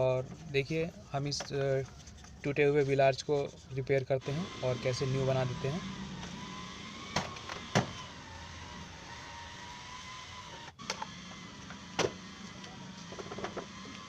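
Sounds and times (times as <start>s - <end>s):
low workshop background: 0.0s - 14.0s.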